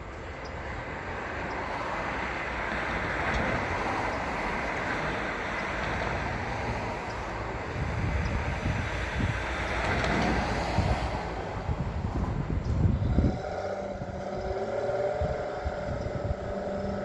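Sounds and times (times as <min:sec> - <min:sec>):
truck engine and machinery running: 0:00.0 - 0:17.0.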